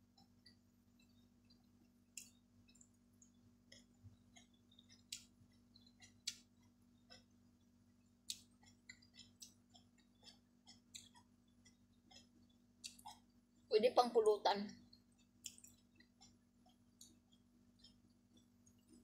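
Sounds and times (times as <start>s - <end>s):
person chewing with mouth clicks: 0.0s - 13.3s, 14.8s - 19.0s.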